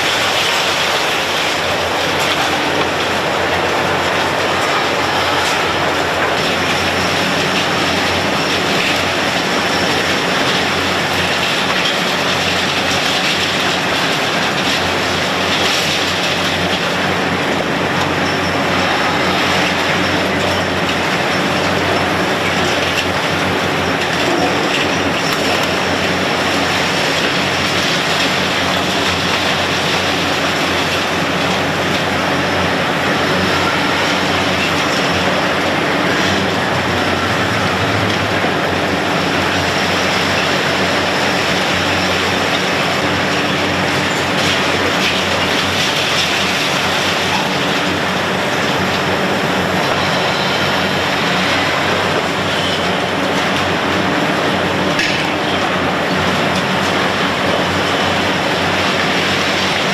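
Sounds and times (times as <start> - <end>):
engine drone: 0.0 - 59.9.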